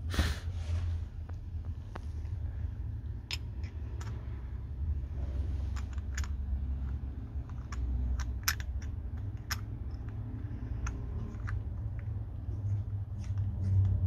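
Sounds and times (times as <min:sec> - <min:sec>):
low handling rumble: 0:00.4 - 0:14.0.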